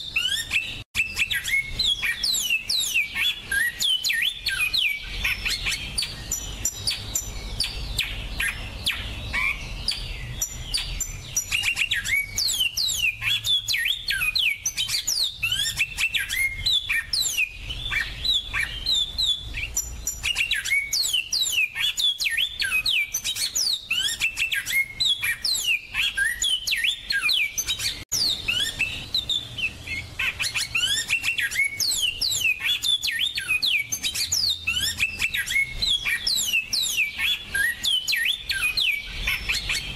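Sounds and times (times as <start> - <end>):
finch chirping and trilling: 0.0 - 39.9.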